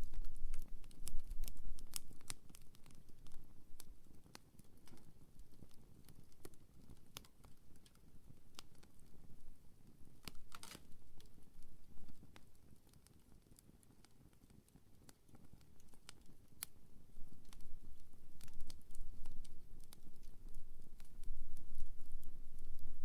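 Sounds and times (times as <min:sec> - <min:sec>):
low rumble of flame: 0:00.0 - 0:12.5, 0:15.3 - 0:23.0
wood crackling and popping: 0:00.0 - 0:23.0.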